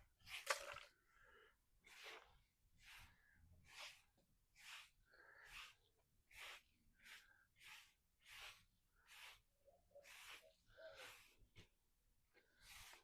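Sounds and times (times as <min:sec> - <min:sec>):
broom sweeping: 0:00.0 - 0:00.9, 0:01.8 - 0:13.0.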